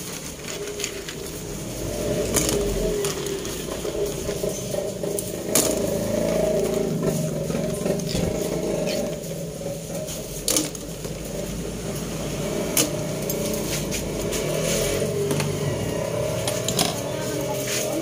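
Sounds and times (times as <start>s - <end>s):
pot heating low rumble: 0.0s - 18.0s.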